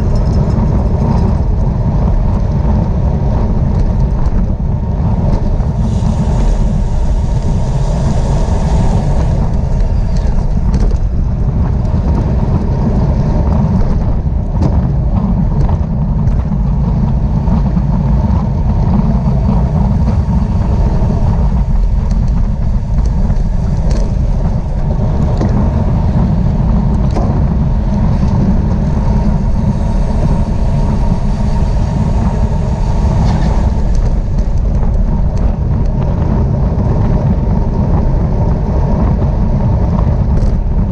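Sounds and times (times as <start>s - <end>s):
loud wind rumble on microphone: 0.0s - 40.9s.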